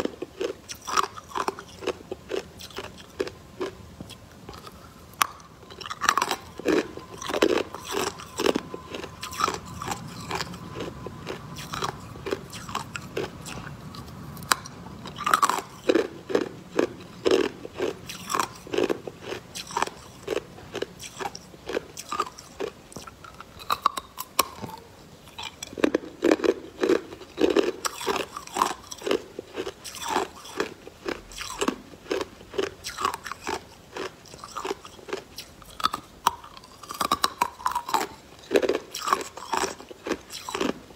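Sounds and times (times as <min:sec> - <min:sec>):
ice crunching between teeth: 0:00.0 - 0:40.9.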